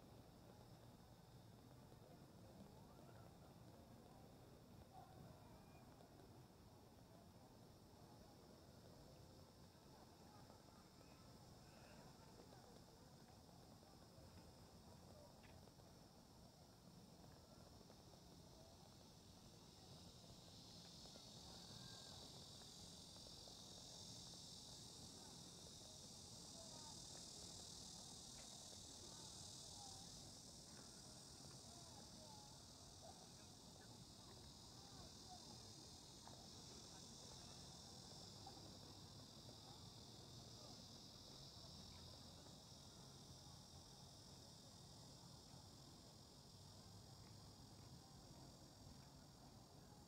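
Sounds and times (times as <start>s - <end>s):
crickets and insects chirring: 7.7s - 50.0s.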